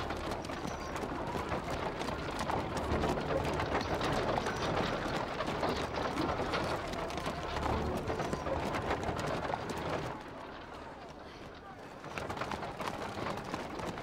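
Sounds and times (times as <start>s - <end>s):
carriage rolling: 0.0s - 14.0s
horse hooves clip-clopping: 0.0s - 14.0s.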